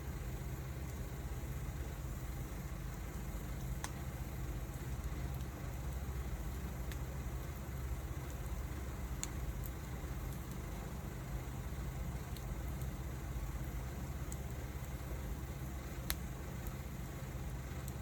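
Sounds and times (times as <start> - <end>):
fire rumbling: 0.0 - 18.0
wood fire crackling: 0.0 - 18.0.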